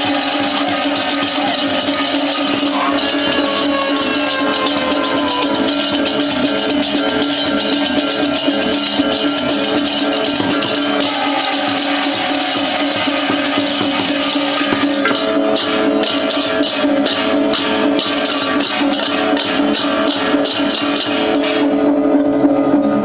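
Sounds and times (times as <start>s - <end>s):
gamelan music: 0.0s - 22.2s.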